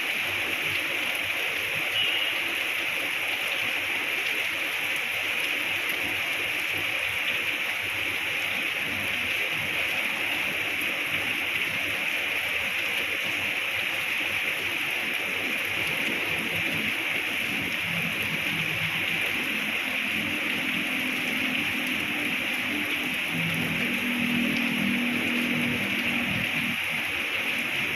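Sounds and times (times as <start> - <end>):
heavy rain falling: 0.0 - 27.9.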